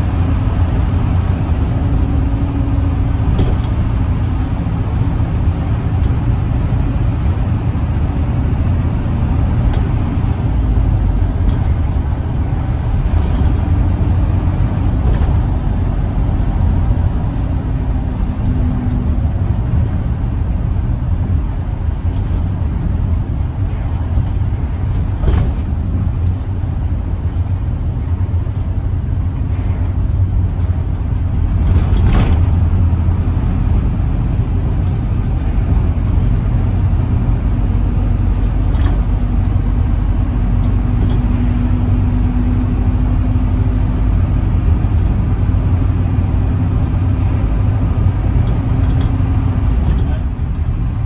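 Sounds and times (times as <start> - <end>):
diesel engine drone: 0.0 - 51.0
road rumble: 0.0 - 51.0.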